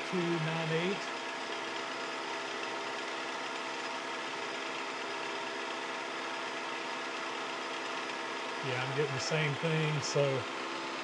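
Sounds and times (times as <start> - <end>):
milling machine spindle hum: 0.0 - 11.0.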